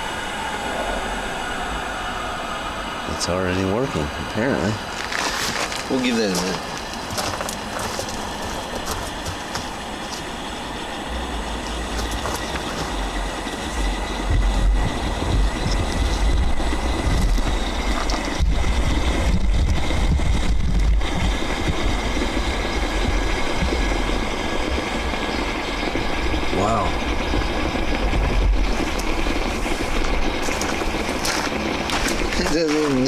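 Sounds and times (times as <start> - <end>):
electric steamer hissing: 0.0 - 33.0
water boiling rumble: 0.0 - 33.0.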